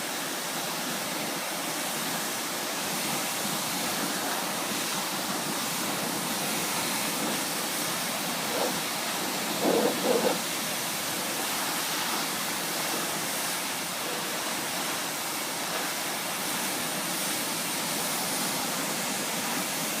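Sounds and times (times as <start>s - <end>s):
pressure washer spray hissing: 0.0s - 20.0s.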